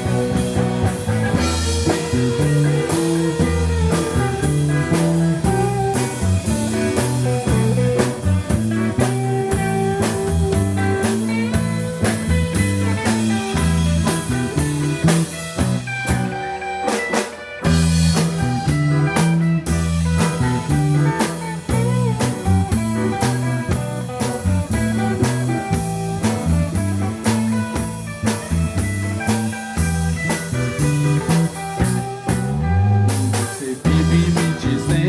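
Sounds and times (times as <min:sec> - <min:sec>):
busy bass line: 0:00.0 - 0:35.0
drum kit: 0:00.0 - 0:35.0
electric guitar: 0:00.0 - 0:35.0.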